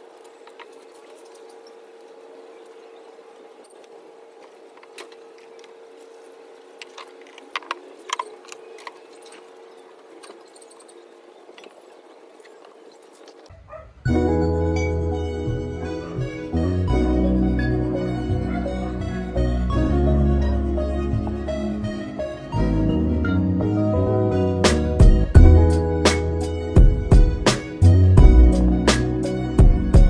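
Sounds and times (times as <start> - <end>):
faint buzzing hum: 0.0 - 30.0.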